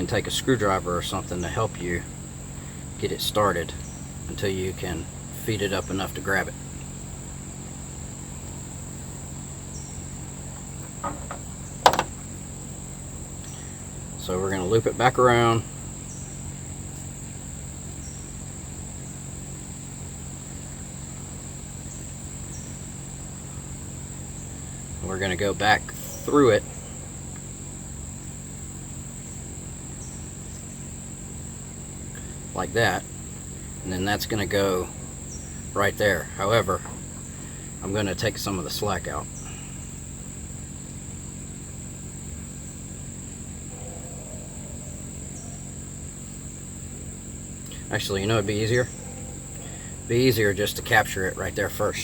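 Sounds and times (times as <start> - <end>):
crickets chirring: 0.0 - 52.0
high-pitched insect trill: 0.0 - 52.0.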